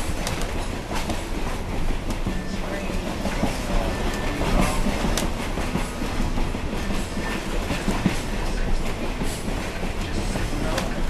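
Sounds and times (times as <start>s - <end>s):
railcar rumbling on track: 0.0s - 11.0s
wheels clacking over rails: 0.0s - 11.0s.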